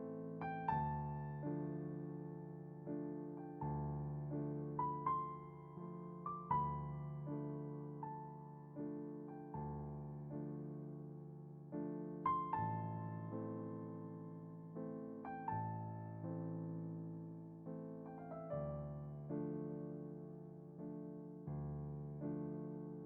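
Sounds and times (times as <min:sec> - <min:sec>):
soft piano music: 0:00.0 - 0:23.0.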